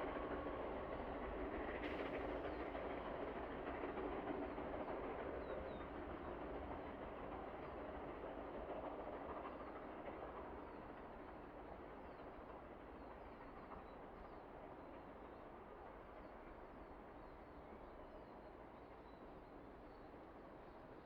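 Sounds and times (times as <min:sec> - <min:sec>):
steam train rumbling: 0:00.0 - 0:21.0.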